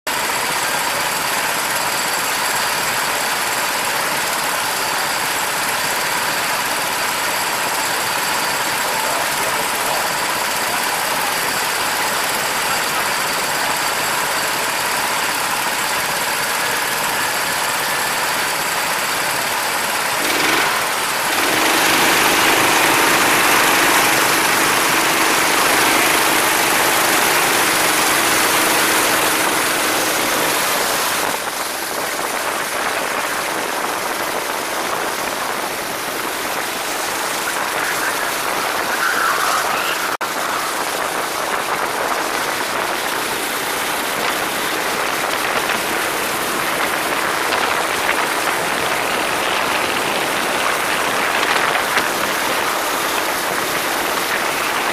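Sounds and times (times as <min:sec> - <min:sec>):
go-kart motor running: 0:00.1 - 0:54.9.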